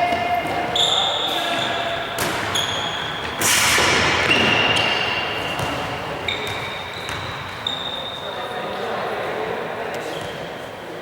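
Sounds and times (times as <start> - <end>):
shoes squeaking on court floor: 0.0 - 8.6, 10.0 - 10.8.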